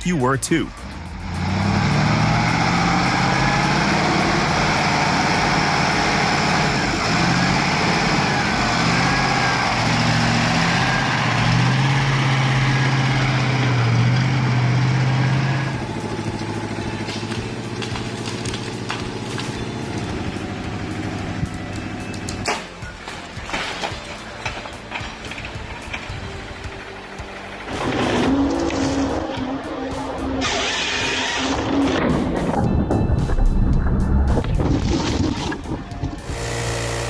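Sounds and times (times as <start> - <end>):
heavy truck engine revving: 0.7 - 22.5, 24.2 - 32.7, 35.1 - 37.0.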